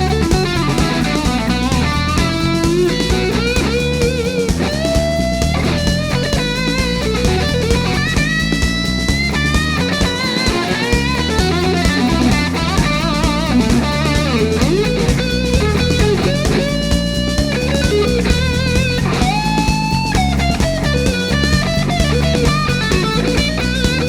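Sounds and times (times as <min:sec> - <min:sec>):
drum kit: 0:00.0 - 0:24.0
lead guitar bending notes: 0:00.0 - 0:24.0
rock music: 0:00.0 - 0:24.0.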